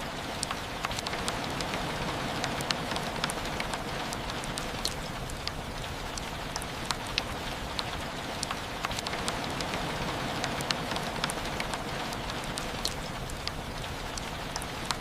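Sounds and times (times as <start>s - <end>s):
raindrops tapping: 0.0s - 15.0s
steady rain hiss: 0.0s - 15.0s.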